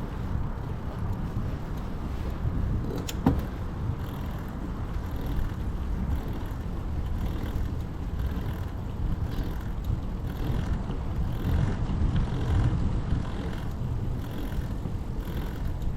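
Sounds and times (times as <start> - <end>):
wind and road rumble: 0.0 - 15.9.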